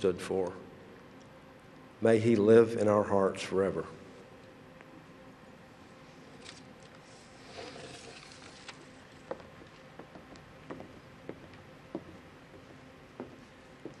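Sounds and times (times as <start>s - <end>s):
large hall background hush: 0.0s - 14.0s.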